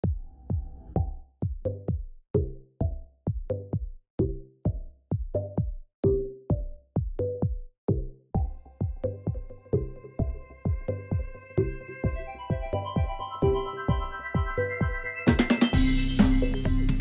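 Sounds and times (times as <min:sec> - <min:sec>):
electronic music with steady beat: 0:00.0 - 0:17.0.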